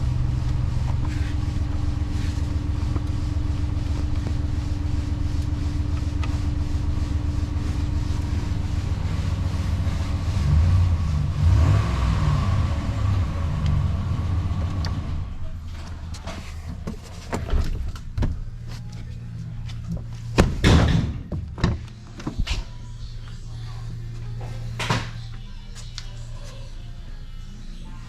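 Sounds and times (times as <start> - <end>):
truck engine idling and revving: 0.0 - 28.0.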